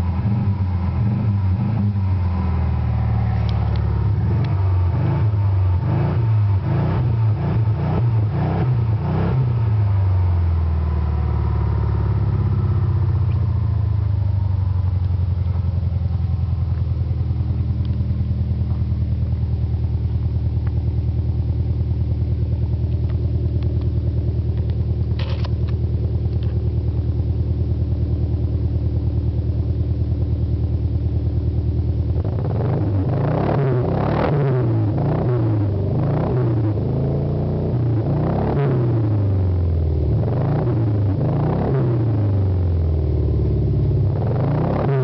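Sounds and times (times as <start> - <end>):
car exhaust pulsing: 0.0 - 45.0.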